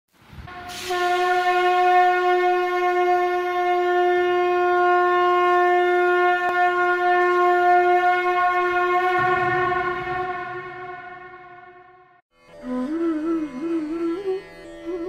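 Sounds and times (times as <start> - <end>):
conch shell blown: 0.5 - 15.0.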